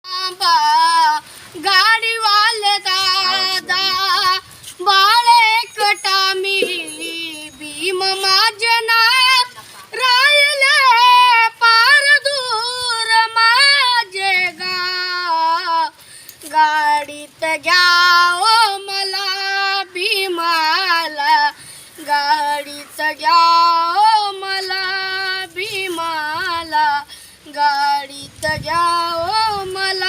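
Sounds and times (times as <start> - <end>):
child singing solo: 0.0 - 30.0.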